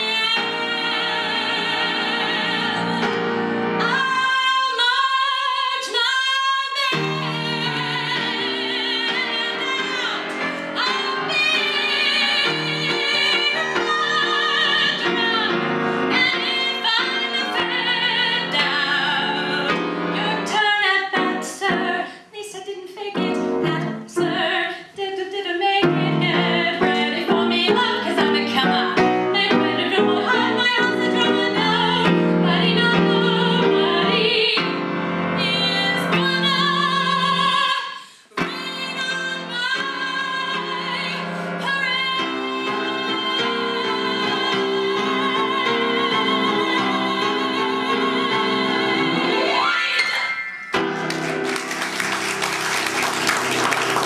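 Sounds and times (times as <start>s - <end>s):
piano accompaniment: 0.0s - 22.2s, 23.0s - 54.0s
woman singing with vibrato: 0.0s - 50.2s.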